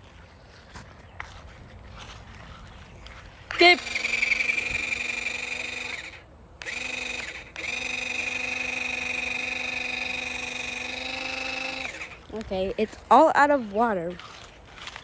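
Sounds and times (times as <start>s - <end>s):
water gun pump motor whining: 0.0s - 15.0s.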